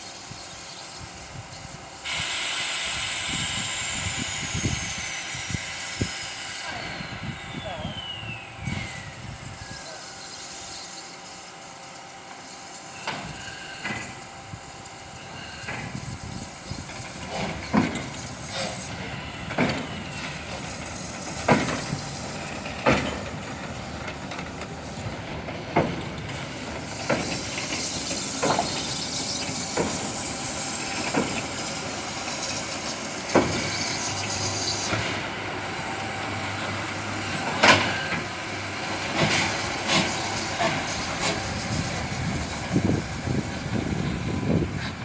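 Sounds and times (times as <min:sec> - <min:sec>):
steam locomotive hissing: 0:00.0 - 0:45.0.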